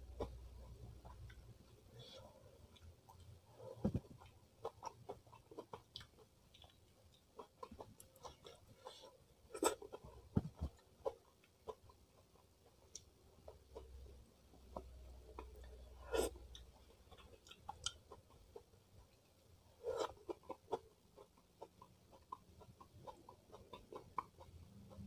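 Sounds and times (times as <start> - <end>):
chewing: 0.1 - 25.0.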